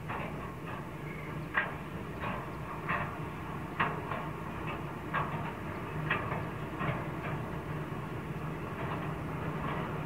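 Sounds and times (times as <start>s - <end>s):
locomotive engine drone: 0.0s - 10.0s
metallic clicks from train: 0.0s - 10.0s.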